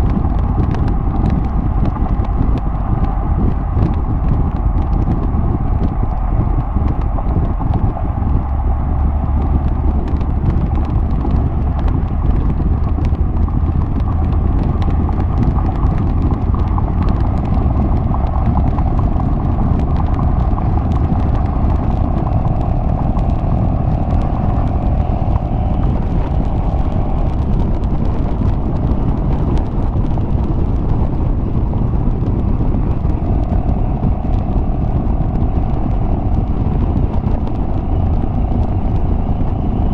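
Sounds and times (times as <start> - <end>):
car exhaust droning: 0.0 - 39.9.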